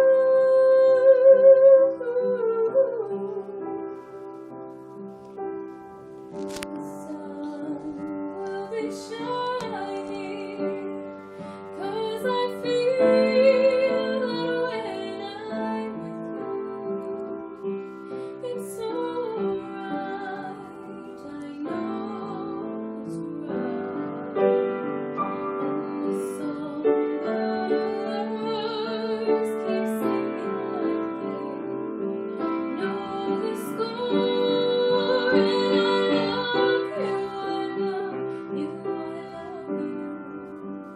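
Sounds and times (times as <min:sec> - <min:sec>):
woman singing a slow ballad: 0:00.0 - 0:03.7, 0:06.7 - 0:17.5, 0:18.2 - 0:24.6, 0:25.3 - 0:32.0, 0:32.6 - 0:40.9
piano accompaniment: 0:00.0 - 0:40.9.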